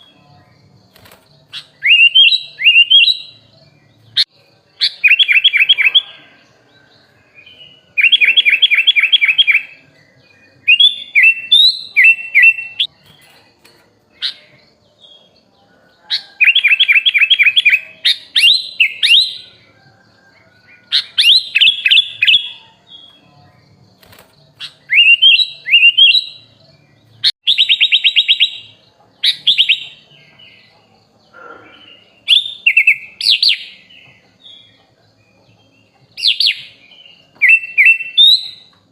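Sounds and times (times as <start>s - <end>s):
bulbul trilling song: 0.0s - 38.9s.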